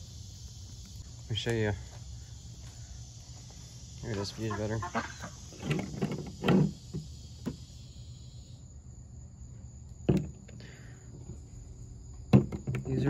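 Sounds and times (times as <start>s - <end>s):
low outdoor background: 0.0s - 13.0s.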